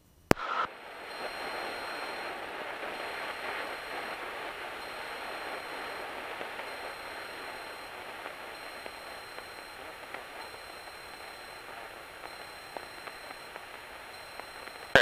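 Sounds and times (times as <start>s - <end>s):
brief tone: 1.0s - 15.0s.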